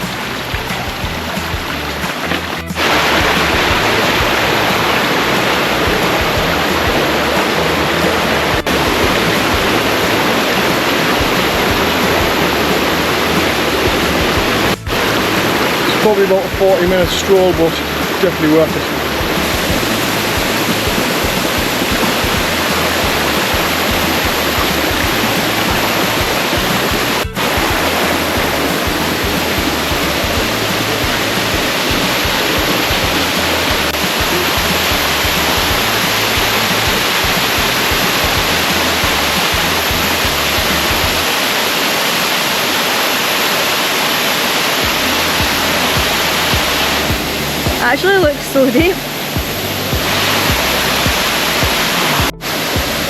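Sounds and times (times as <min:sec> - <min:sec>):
background music: 0:00.0 - 0:41.4, 0:44.7 - 0:53.0
waterfall rushing: 0:00.0 - 0:53.0.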